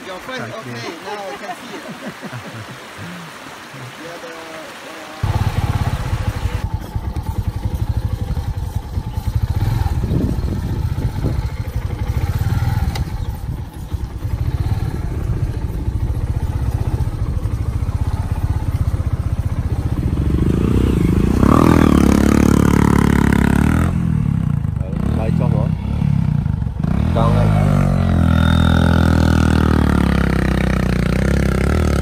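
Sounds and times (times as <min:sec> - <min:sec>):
motorcycle engine running: 0:05.2 - 0:32.0.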